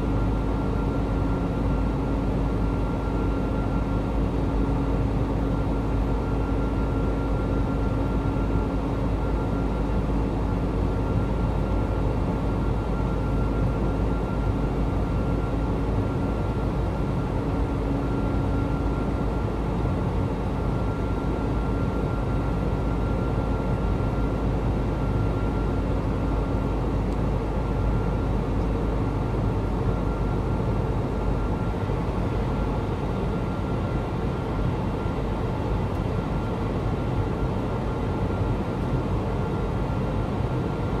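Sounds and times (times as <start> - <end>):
faint steady whine: 0.0 - 41.0
jet cabin engine rumble: 0.0 - 41.0.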